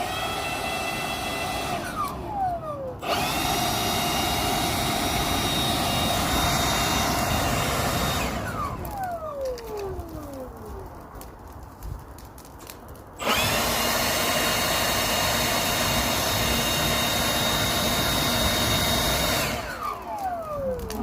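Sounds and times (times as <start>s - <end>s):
leaf blower motor whine: 0.0s - 10.9s, 13.2s - 21.0s.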